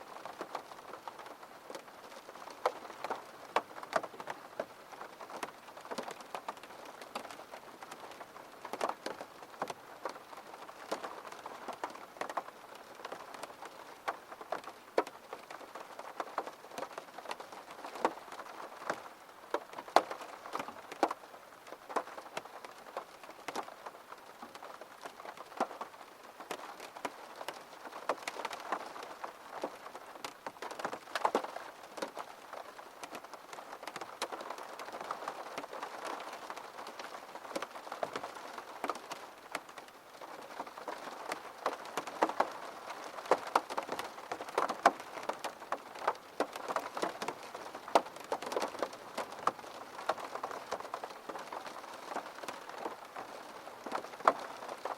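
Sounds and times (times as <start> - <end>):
raindrops ticking and pattering: 0.0 - 54.9.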